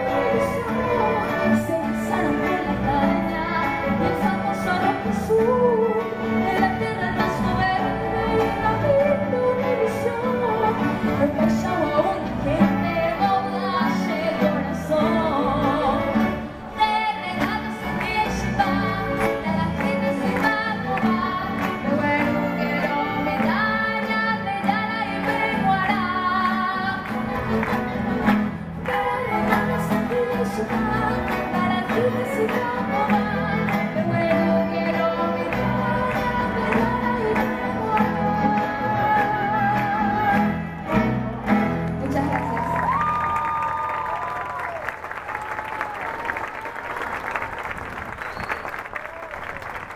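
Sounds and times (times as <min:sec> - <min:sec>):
woman singing into a microphone: 0:00.0 - 0:27.7, 0:28.8 - 0:41.2, 0:41.9 - 0:43.4
orchestra of strings and winds: 0:00.0 - 0:42.6.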